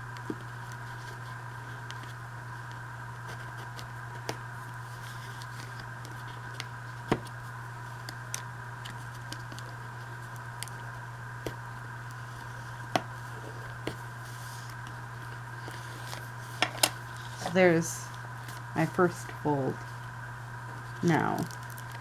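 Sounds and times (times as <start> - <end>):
electrical hum: 0.0 - 22.0
paper envelopes handled: 0.1 - 22.0.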